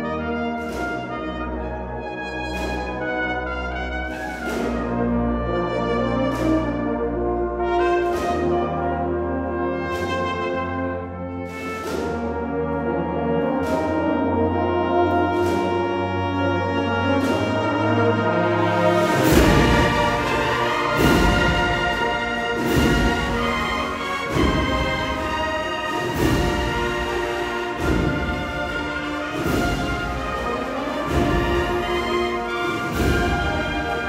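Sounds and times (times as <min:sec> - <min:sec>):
brass band playing chords: 0:00.0 - 0:34.0.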